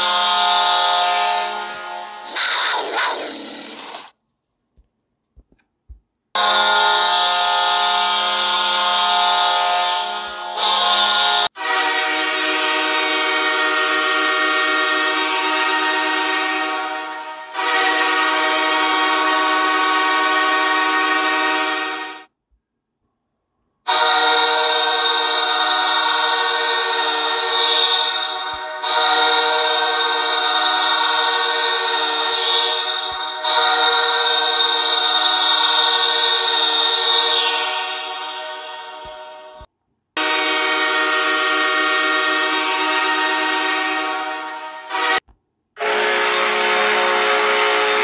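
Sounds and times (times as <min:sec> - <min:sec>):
goal horn blast: 0:06.4 - 0:22.3, 0:23.9 - 0:45.2, 0:45.8 - 0:48.0.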